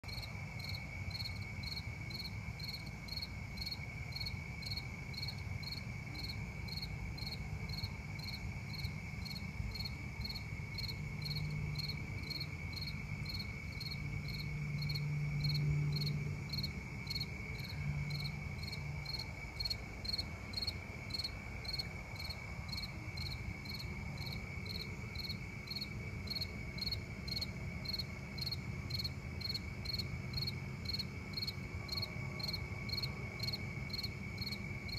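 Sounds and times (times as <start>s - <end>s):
insect chirping: 0.1s - 34.9s.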